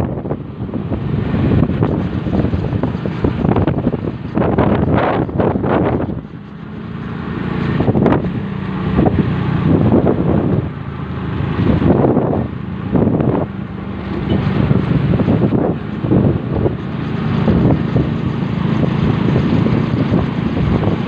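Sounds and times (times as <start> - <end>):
low engine hum: 0.0 - 21.0
wind buffeting microphone: 0.0 - 21.0.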